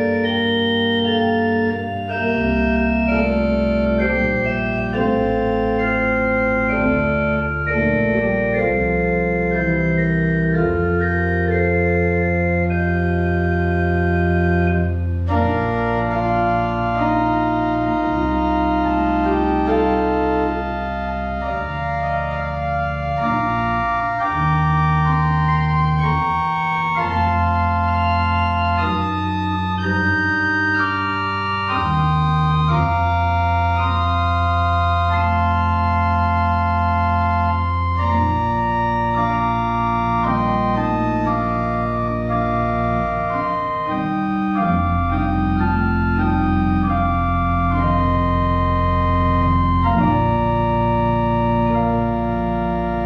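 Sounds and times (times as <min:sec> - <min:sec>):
pipe organ playing chords: 0:00.0 - 0:53.0.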